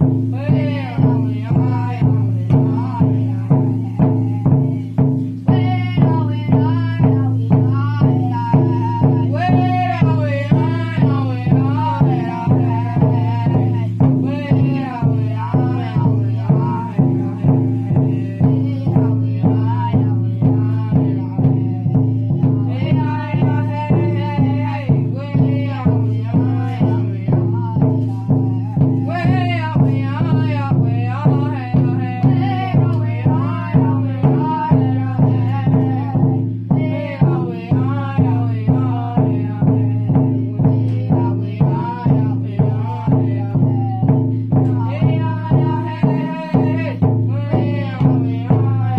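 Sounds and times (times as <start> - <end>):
person singing: 0.0 - 48.9
steady drumbeat: 0.0 - 48.9.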